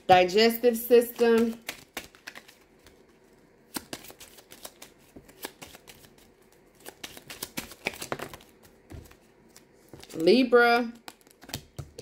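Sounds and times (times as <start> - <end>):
cards shuffling: 0.9 - 10.4, 11.0 - 11.9.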